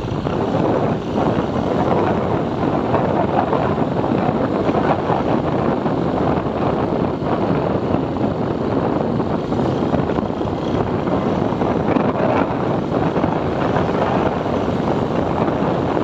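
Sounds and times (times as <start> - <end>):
motorbike engine: 0.0 - 16.0
road noise: 0.0 - 16.0
wind buffeting microphone: 0.0 - 16.0.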